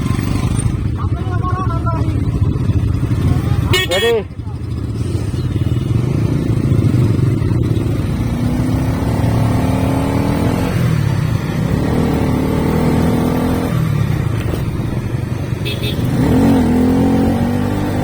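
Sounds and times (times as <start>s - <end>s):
motorcycle engines accelerating: 0.0s - 18.0s.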